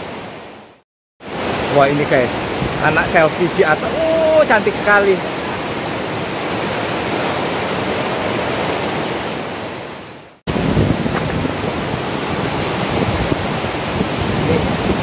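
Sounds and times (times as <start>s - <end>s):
river rushing over rocks: 0.0s - 15.0s
waterfall roaring: 0.0s - 15.0s.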